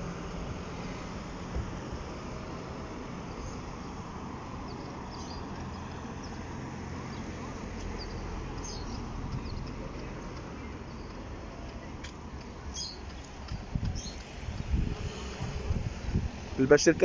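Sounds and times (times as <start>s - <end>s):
low rumble of street noise: 0.0s - 17.0s.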